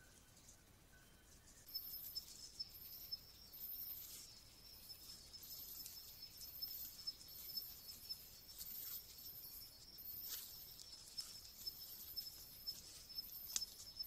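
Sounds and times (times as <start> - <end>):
faint ticks: 1.6 - 14.0
insects trilling: 1.6 - 14.0
high insect buzz: 1.7 - 14.0.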